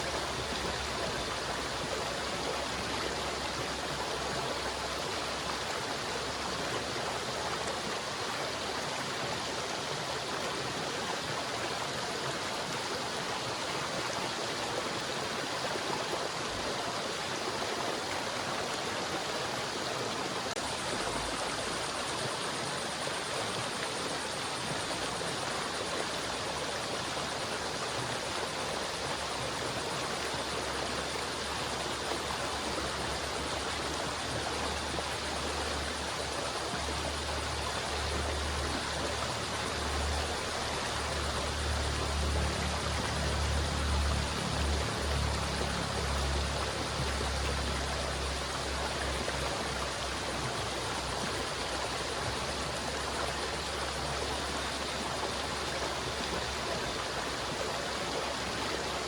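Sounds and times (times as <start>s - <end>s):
river water flowing over stones: 0.0s - 59.0s.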